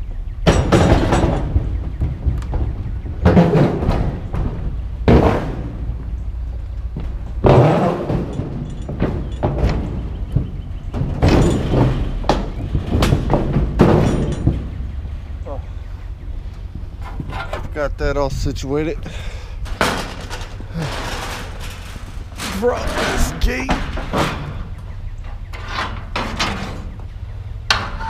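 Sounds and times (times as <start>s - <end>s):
steady low rumble: 0.0s - 28.0s
scrap metal thuds and clanks: 0.4s - 28.0s.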